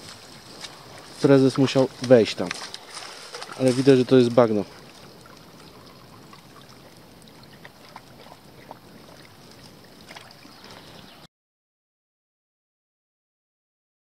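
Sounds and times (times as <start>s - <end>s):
water sloshing and splashing: 0.0s - 11.2s.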